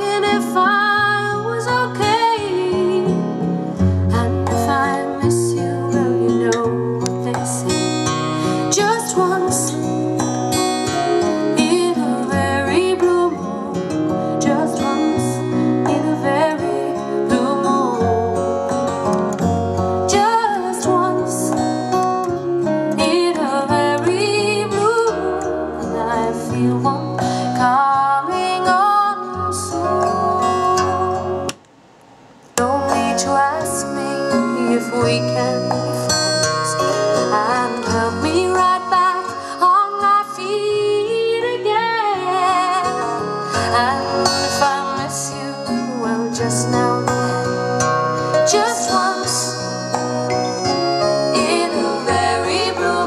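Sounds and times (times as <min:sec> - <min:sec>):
song with acoustic guitar: 0:00.0 - 0:31.6, 0:32.5 - 0:53.0.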